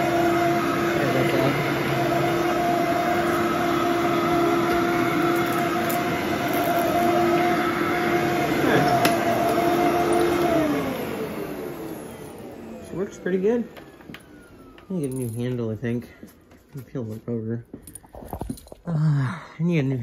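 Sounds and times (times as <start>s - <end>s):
vacuum cleaner motor whine: 0.0s - 16.3s.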